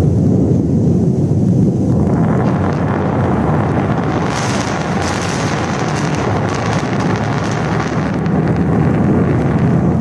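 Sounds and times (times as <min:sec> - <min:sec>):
distant rocket engine roar: 0:00.0 - 0:10.0.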